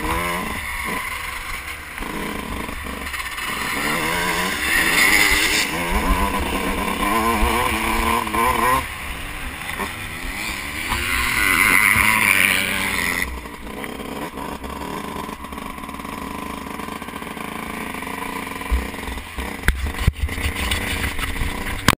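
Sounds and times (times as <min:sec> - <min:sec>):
motocross engine revving: 0:00.0 - 0:22.0.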